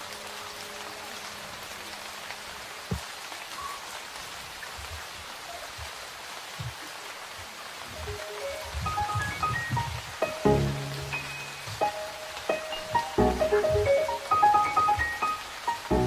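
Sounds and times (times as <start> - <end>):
steady rain on wet ground: 0.0 - 16.0.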